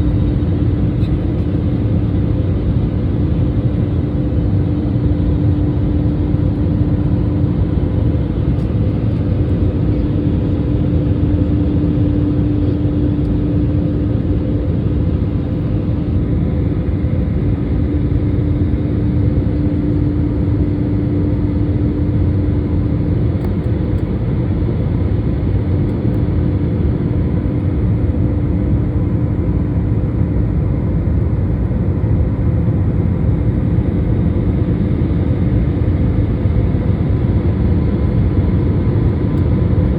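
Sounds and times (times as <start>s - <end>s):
airliner engines and rushing air: 0.0s - 39.9s.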